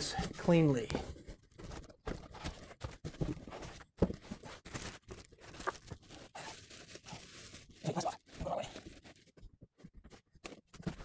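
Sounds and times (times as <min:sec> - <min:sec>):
cardboard packaging rustling: 0:00.0 - 0:11.0
plastic wrapping crinkling: 0:01.3 - 0:11.0.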